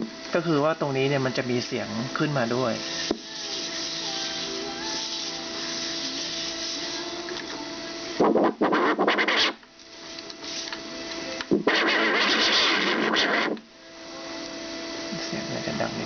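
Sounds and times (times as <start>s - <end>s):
steady speaker hum: 0.0s - 16.0s.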